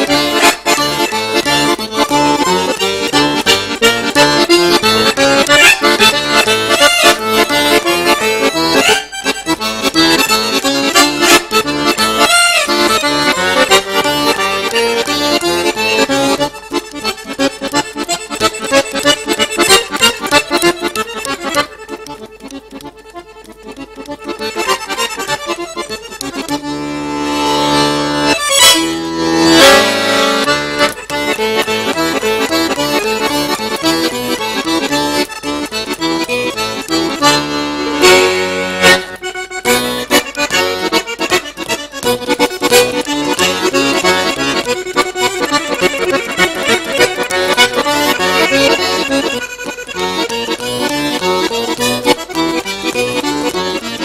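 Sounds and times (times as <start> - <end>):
piano accordion playing: 0.0 - 54.0.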